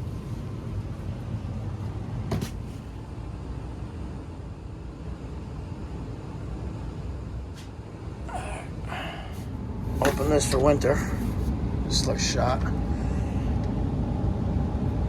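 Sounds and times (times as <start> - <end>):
gas furnace rumbling: 0.0 - 15.0.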